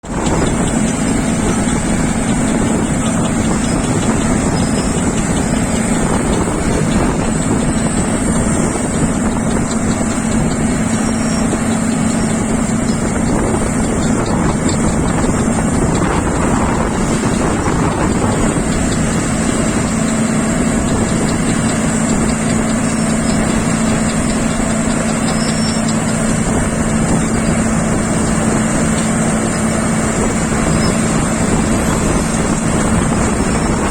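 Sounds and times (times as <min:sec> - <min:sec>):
motor humming: 0:00.0 - 0:33.9
wind noise on microphone: 0:00.0 - 0:33.9.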